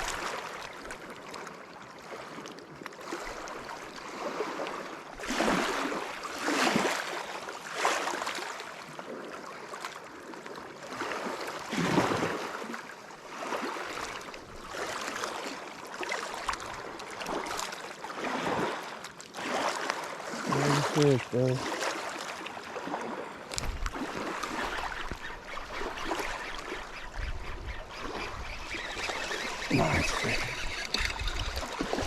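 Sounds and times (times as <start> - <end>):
water lapping and splashing: 0.0 - 32.0.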